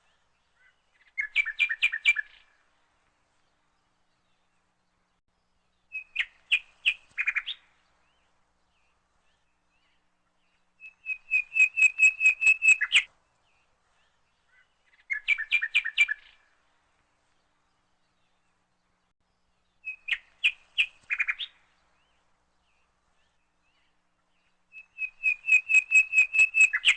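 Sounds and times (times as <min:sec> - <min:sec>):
bird chirping: 0:00.0 - 0:02.6, 0:03.5 - 0:16.6, 0:17.2 - 0:26.9.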